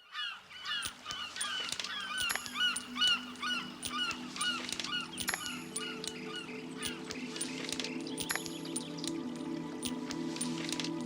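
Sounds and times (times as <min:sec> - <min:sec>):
flock of birds calling: 0:00.0 - 0:11.0
low steady music: 0:00.8 - 0:11.0.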